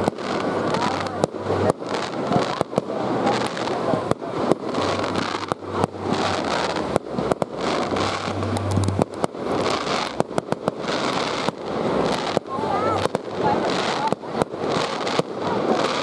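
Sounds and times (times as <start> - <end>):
crackle of bursting shells: 0.0 - 16.0
fireworks bangs: 0.0 - 16.0.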